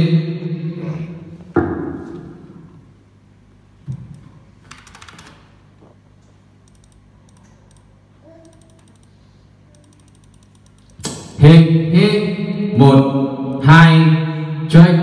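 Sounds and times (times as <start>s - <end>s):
sound system hum: 0.0s - 15.0s.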